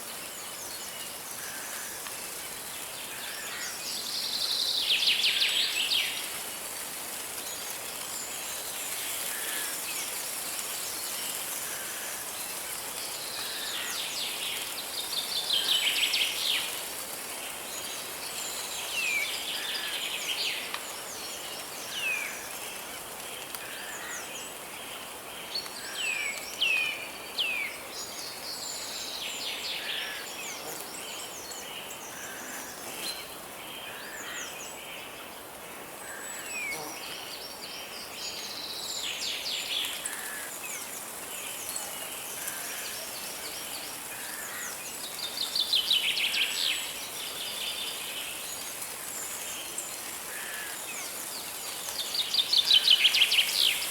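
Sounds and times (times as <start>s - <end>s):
songbirds singing and calling: 0.0s - 53.9s.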